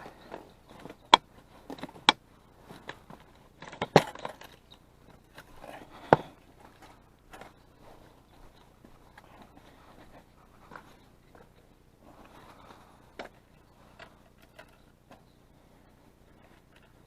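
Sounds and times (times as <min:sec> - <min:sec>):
gear rustling and clattering: 0:00.0 - 0:17.0.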